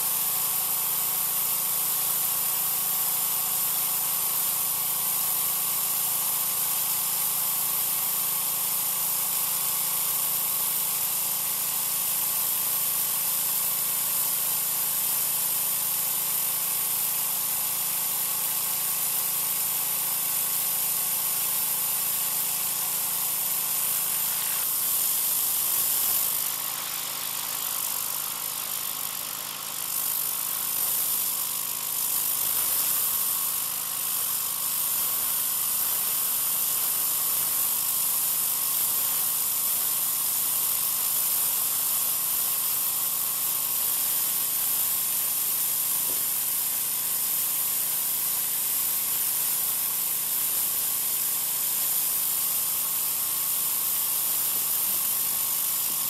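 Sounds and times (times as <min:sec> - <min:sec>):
high-pressure spray hissing on concrete: 0:00.0 - 0:56.0
pressure washer engine: 0:00.0 - 0:56.0.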